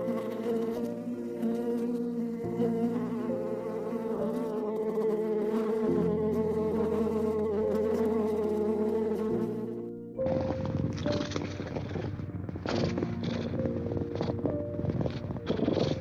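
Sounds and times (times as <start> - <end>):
flying insects buzzing: 0.0 - 16.0.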